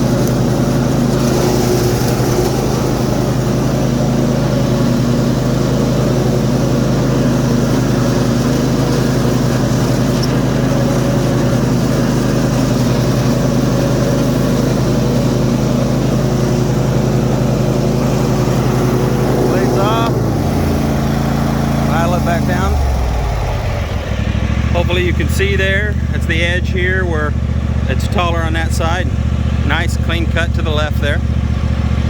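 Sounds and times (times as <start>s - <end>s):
riding mower mowing grass: 0.0s - 32.0s.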